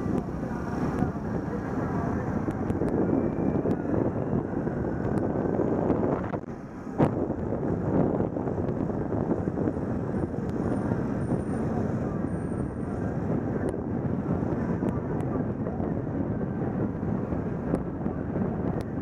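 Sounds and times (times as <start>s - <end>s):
slow car traffic: 0.0s - 19.0s
wind on microphone: 0.0s - 19.0s.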